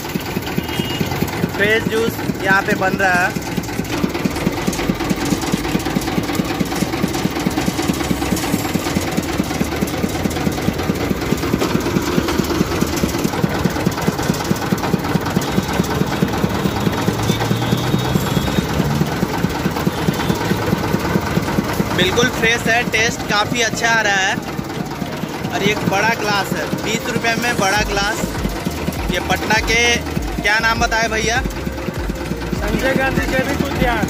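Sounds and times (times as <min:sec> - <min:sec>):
juice crusher engine knocking: 0:00.0 - 0:34.0.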